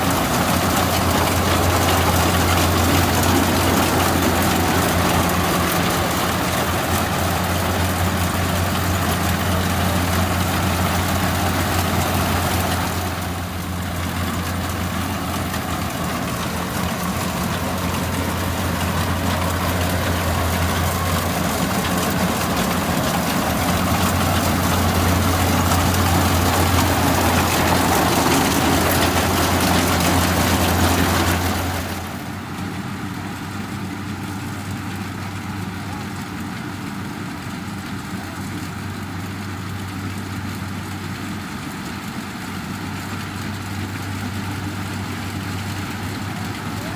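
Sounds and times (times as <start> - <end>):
diesel engine humming: 0.0 - 46.9.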